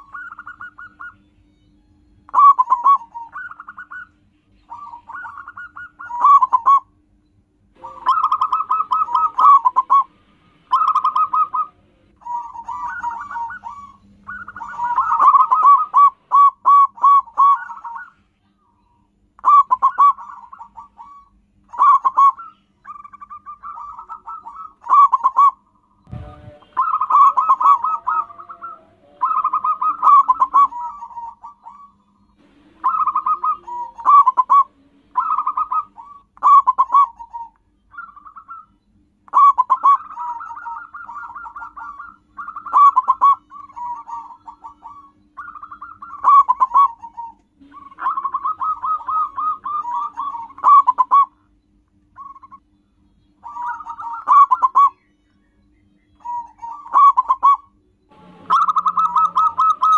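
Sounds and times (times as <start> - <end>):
dove cooing: 0.0 - 1.2, 2.3 - 4.1, 4.7 - 7.0, 7.8 - 18.2, 19.4 - 32.0, 32.7 - 38.7, 39.3 - 51.4, 53.4 - 55.0, 56.2 - 57.8, 58.5 - 59.9.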